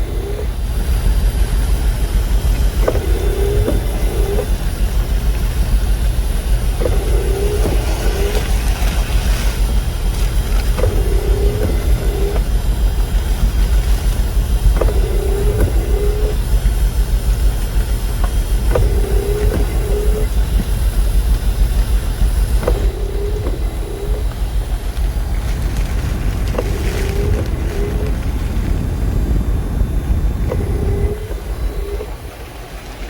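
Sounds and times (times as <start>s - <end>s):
wind buffeting rumble: 0.0s - 33.0s
wiper blades squeaking on glass: 2.7s - 33.0s.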